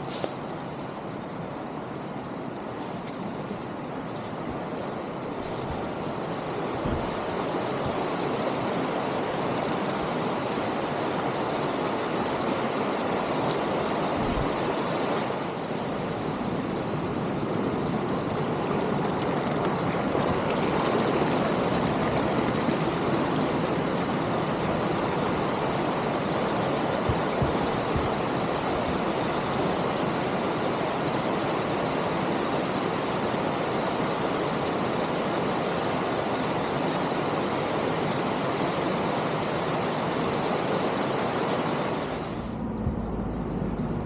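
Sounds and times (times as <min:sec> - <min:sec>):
flowing water rushing: 0:05.2 - 0:15.8, 0:17.7 - 0:42.5.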